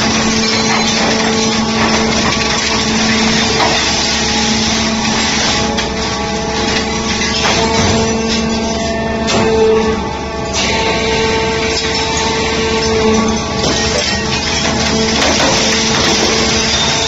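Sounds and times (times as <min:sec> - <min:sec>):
heavy hydraulic machinery running: 0:00.0 - 0:17.0.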